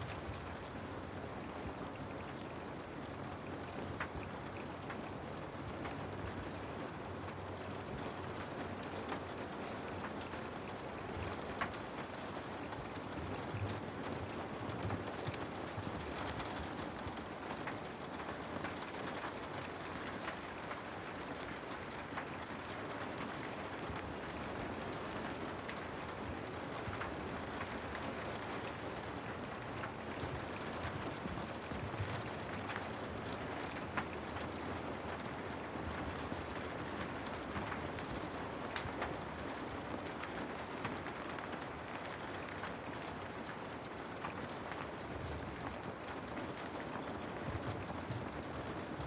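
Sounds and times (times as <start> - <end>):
rain drop ticks: 0.0 - 49.0
steady rain falling: 0.0 - 49.0.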